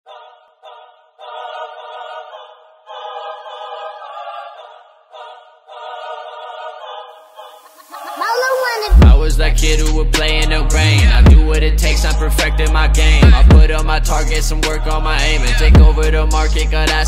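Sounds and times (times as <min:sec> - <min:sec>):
choir-like vocal sample: 0:00.1 - 0:17.0.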